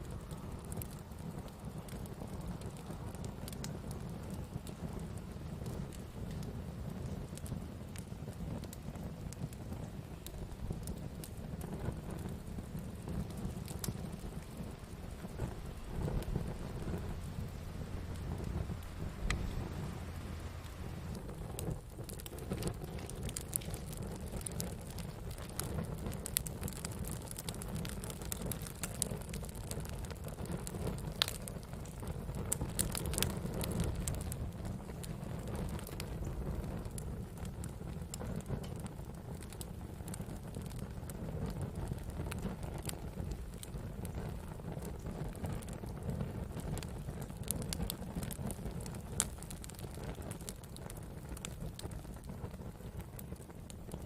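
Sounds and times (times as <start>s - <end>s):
campfire crackling: 0.0s - 54.0s
sharp pops and snaps of fire: 0.0s - 54.0s.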